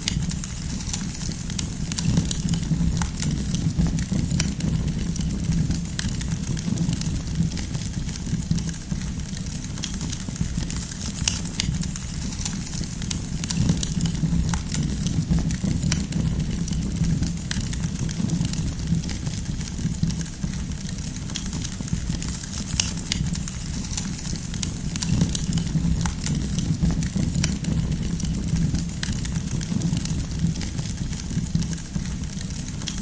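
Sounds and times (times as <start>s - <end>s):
firewood crackling and popping: 0.0s - 33.0s
low rumble of flames: 0.0s - 33.0s.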